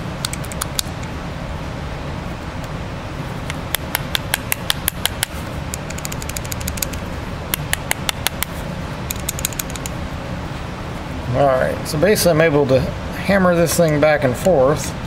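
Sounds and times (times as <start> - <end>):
heater humming: 0.0 - 15.0.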